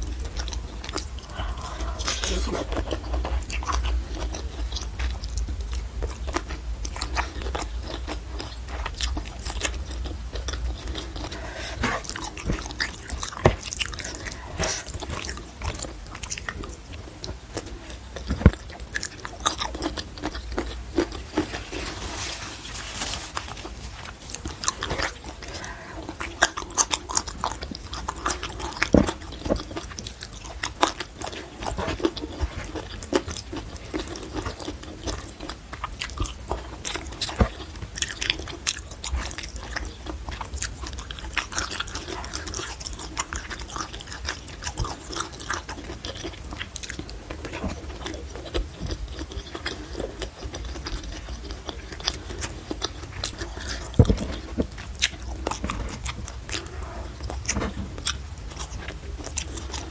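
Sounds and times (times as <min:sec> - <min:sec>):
person chewing and mouth sounds: 0:00.0 - 0:59.9.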